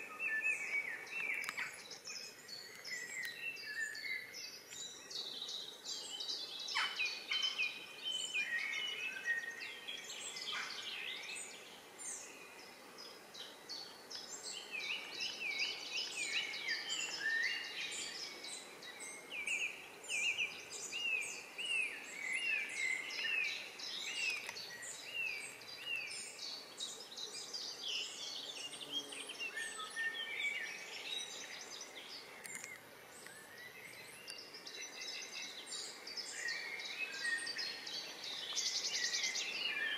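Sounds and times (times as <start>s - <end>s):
faint steady background hiss: 0.0s - 39.9s
songbirds chirping and trilling: 0.0s - 39.9s.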